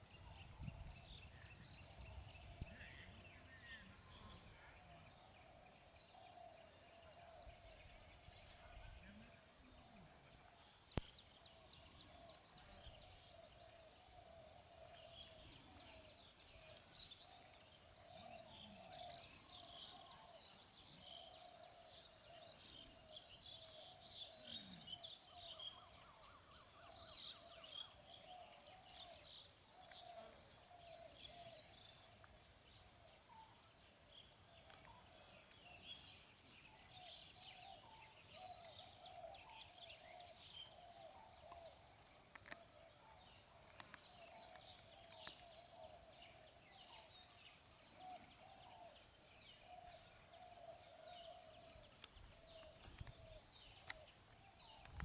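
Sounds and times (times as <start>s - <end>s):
repeated lower bird calls: 0.0s - 55.0s
small birds chirping: 0.0s - 55.0s.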